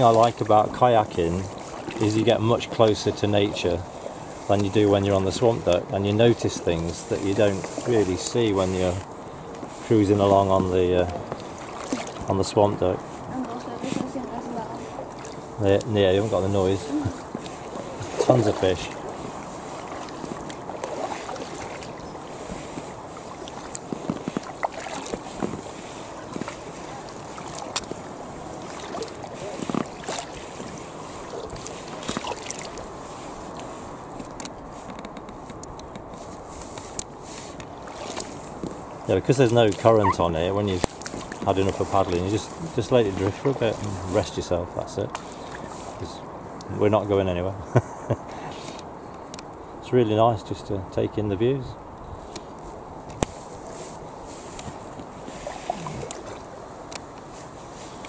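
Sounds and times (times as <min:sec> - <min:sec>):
paddles splashing water: 0:00.0 - 0:49.6, 0:51.8 - 0:58.0.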